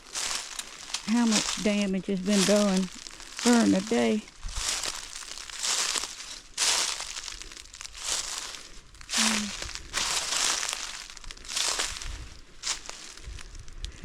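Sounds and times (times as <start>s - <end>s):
footsteps crunching through dry leaves: 0.0s - 13.8s.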